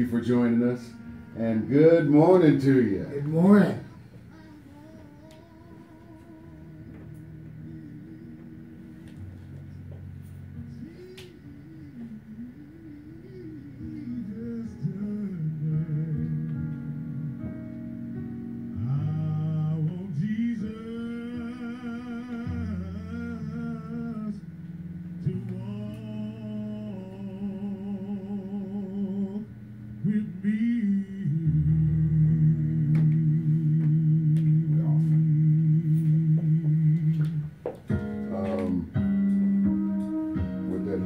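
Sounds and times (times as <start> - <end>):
low sustained chords: 0.0 - 41.0
slow song with hummed notes: 0.0 - 41.0.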